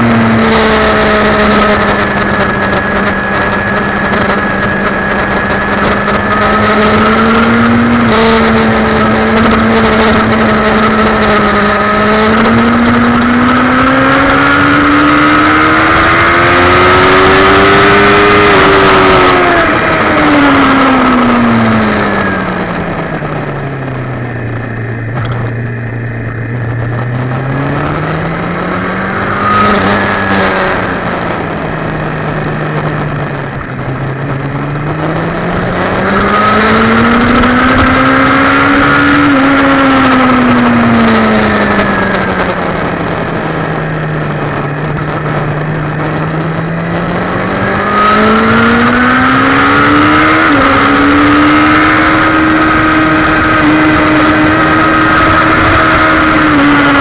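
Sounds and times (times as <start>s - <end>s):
sport motorcycle engine: 0.0s - 57.0s
wind rush: 0.0s - 57.0s.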